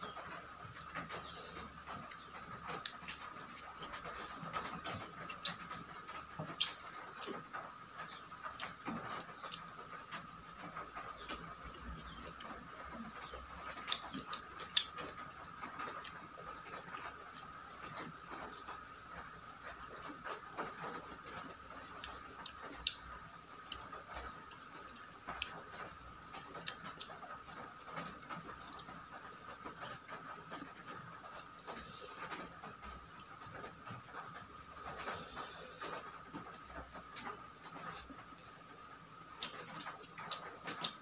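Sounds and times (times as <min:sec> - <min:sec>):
chewing and lip smacks: 0:00.1 - 0:38.7, 0:39.3 - 0:41.0.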